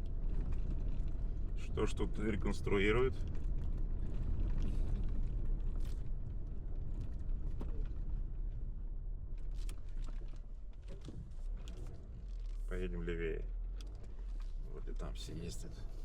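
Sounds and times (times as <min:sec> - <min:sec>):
car rumbling on dirt road: 0:00.0 - 0:16.0.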